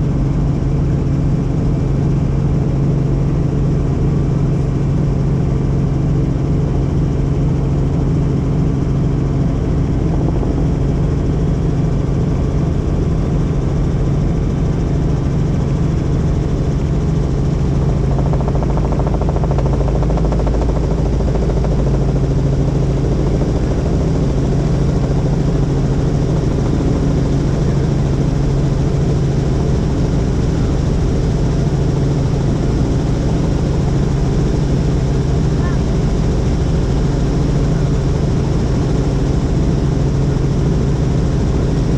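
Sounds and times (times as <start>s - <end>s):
helicopter rotor and engine drone: 0.0s - 41.9s.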